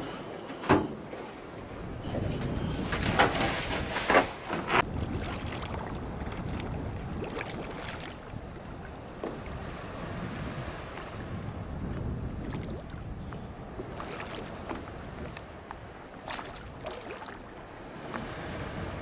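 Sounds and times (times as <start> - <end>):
water splashing and sloshing: 0.0 - 19.0
wind rumble on microphone: 1.6 - 19.0.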